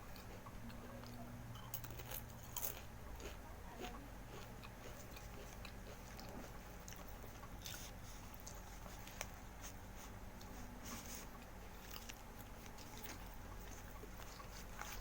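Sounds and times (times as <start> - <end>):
faint low hum: 0.0 - 15.0
person chewing crunchy food: 0.0 - 15.0.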